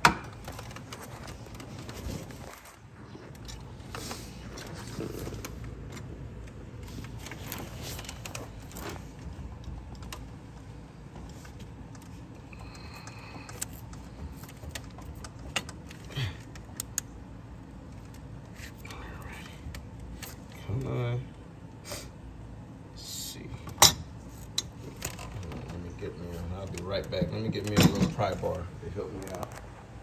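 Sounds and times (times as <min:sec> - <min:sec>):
low steady rumble: 0:00.3 - 0:30.0.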